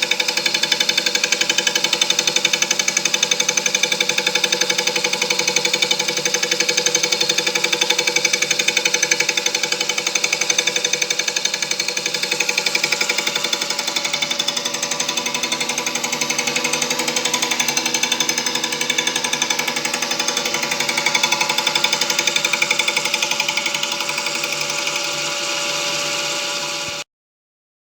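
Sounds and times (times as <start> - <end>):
machine hammering: 0.0 - 27.0.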